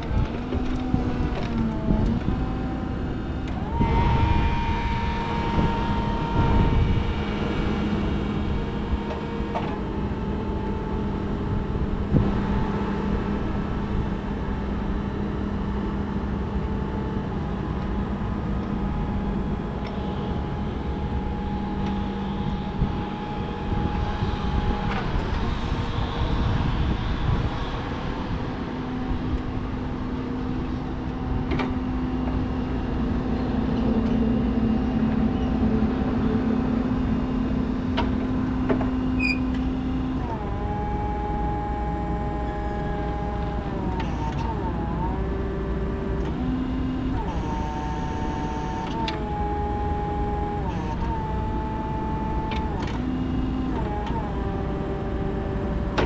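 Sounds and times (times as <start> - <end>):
hydraulic pump motor humming: 0.0 - 15.0, 16.6 - 56.0.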